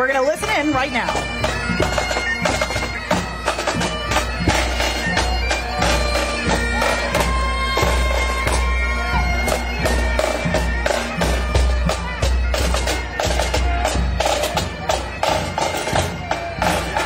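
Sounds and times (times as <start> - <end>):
bagpipes playing: 0.0 - 17.0
snare drums: 0.4 - 17.0.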